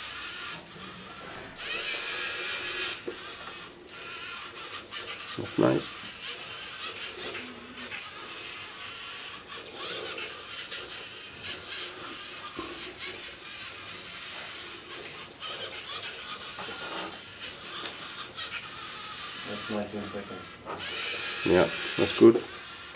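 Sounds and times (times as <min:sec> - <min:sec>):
servo motors whirring: 0:00.0 - 0:22.9.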